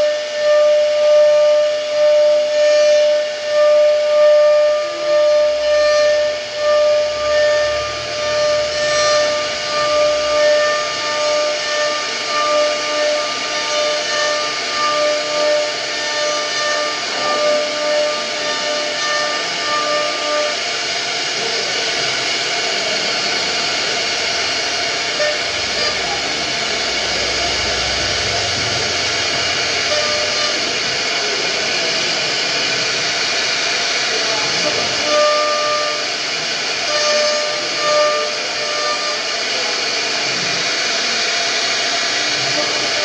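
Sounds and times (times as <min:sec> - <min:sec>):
hiss of cutting wood: 0:00.0 - 0:43.0
router spindle whining: 0:00.0 - 0:43.0.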